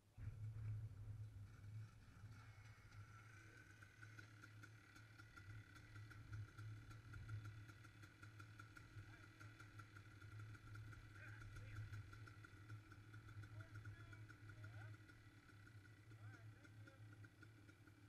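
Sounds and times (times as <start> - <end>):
dirt bike engine at low revs: 0.0 - 18.0.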